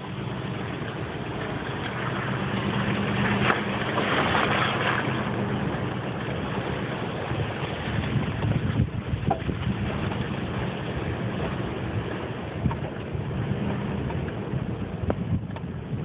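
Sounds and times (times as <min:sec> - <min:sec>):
pickup engine humming: 0:00.0 - 0:16.0.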